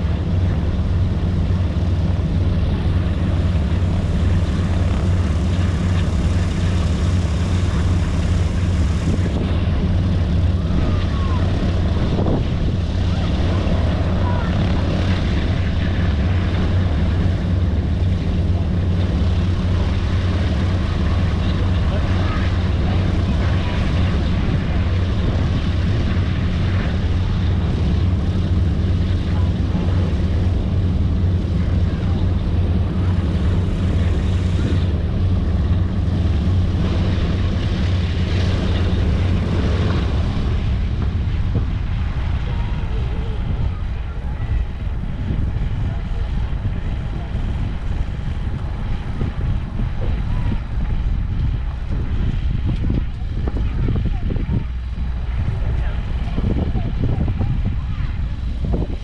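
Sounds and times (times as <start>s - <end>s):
propeller engines droning: 0.0s - 59.0s.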